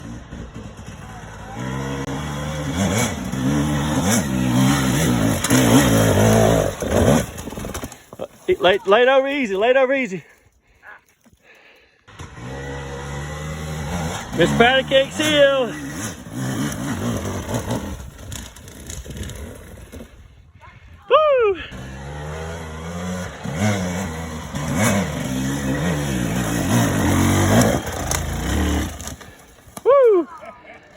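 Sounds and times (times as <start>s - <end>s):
dirt bike engine revving: 0.0s - 9.5s, 12.1s - 20.2s, 21.5s - 30.1s.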